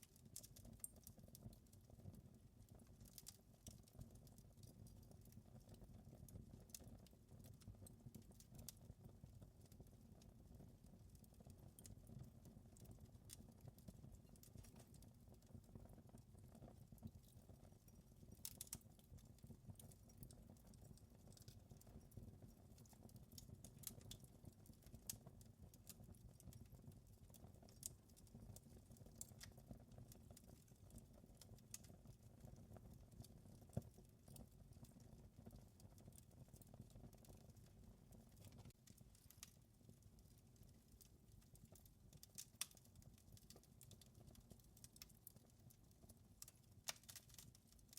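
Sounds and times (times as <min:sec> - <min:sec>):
fire crackling and popping: 0:00.1 - 0:47.9.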